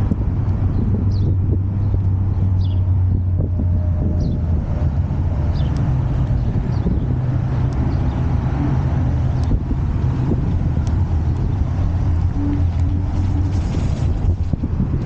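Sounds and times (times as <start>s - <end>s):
road noise: 0.0s - 15.0s
wind rumble on microphone: 0.0s - 15.0s.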